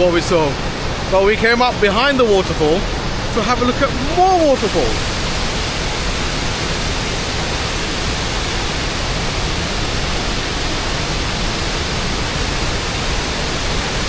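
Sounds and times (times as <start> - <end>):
waterfall roar: 0.0 - 14.0.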